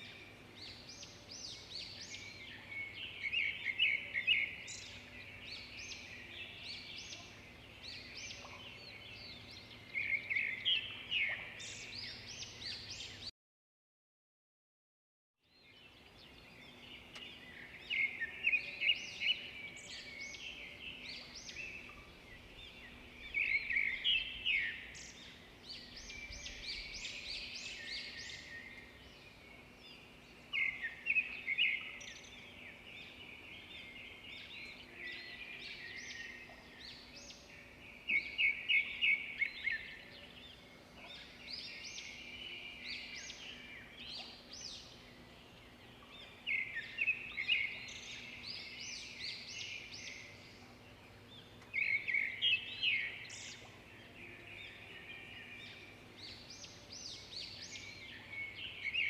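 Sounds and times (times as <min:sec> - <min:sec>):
birds chirping: 0:00.0 - 0:13.3, 0:15.6 - 0:59.0.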